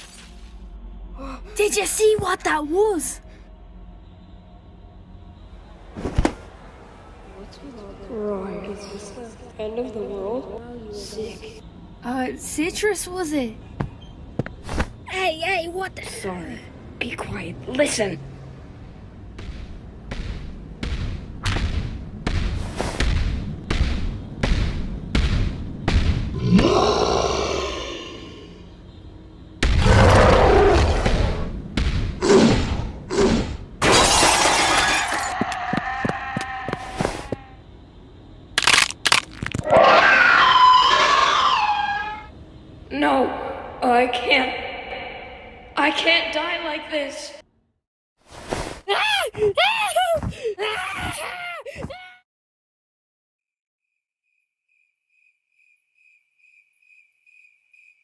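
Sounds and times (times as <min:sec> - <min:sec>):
crickets chirping: 0:00.0 - 0:47.5, 0:48.8 - 0:52.1, 0:54.2 - 0:58.0.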